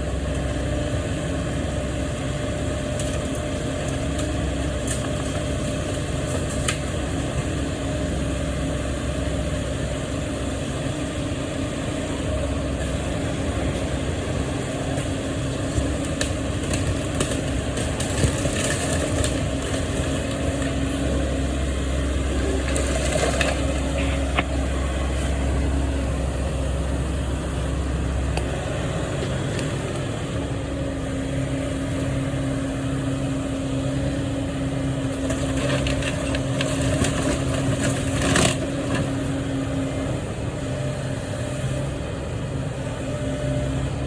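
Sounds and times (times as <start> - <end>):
heavy machinery engine rumbling: 0.0 - 44.0.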